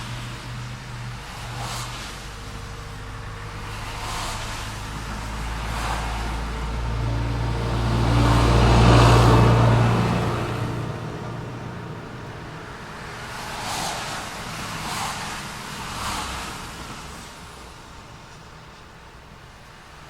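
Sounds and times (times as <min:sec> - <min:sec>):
cars passing: 0:00.0 - 0:20.0
vehicle engine humming: 0:00.0 - 0:20.0.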